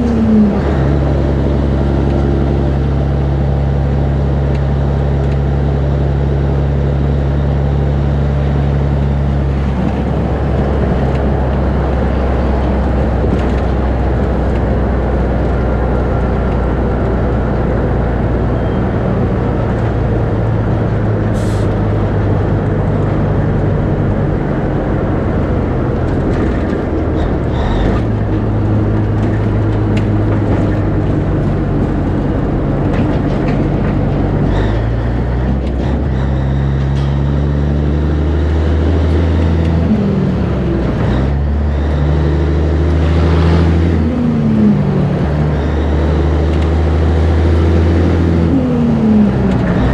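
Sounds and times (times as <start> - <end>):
truck diesel engine droning: 0.0 - 49.9.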